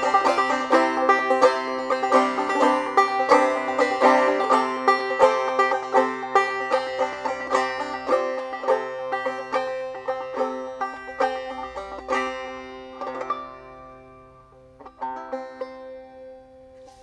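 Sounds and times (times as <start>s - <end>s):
banjo playing: 0.0s - 17.0s.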